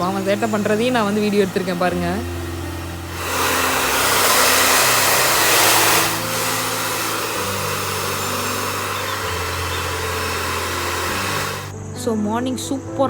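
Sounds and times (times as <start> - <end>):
hair dryer blowing: 0.0 - 11.8.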